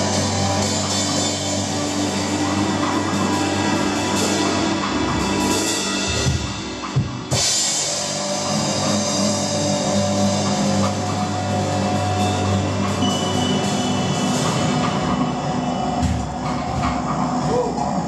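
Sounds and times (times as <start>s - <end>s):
drum kit: 0.0s - 17.3s.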